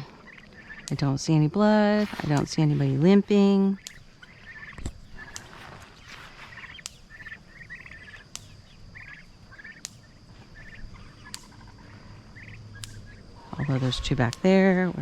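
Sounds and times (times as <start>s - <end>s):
turkeys calling: 0.0s - 15.0s.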